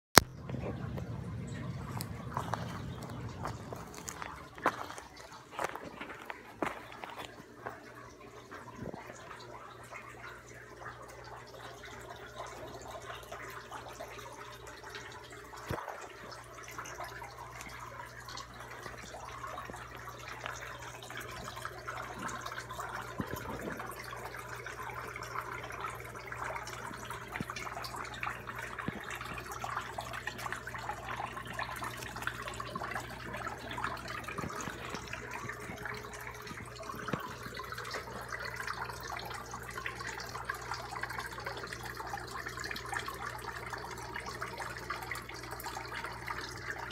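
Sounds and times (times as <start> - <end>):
steady low hum: 0.2 - 46.9
water trickling and splashing: 0.2 - 46.9.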